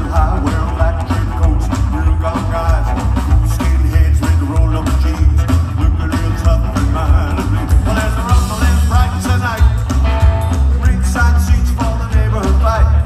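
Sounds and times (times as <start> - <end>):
drum kit: 0.0 - 13.0
electric guitar: 0.0 - 13.0
lead vocal singing: 0.0 - 13.0
upright bass: 0.0 - 13.0.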